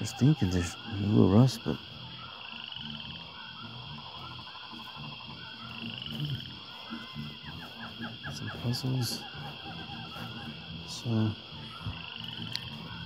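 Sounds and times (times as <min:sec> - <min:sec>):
high-pitched animal chorus: 0:00.0 - 0:13.0.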